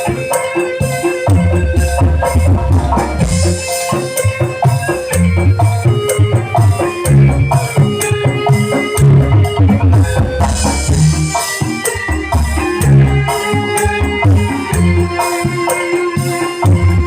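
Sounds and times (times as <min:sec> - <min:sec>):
loud music with heavy bass: 0:00.0 - 0:17.0
percussion hits: 0:00.0 - 0:17.0.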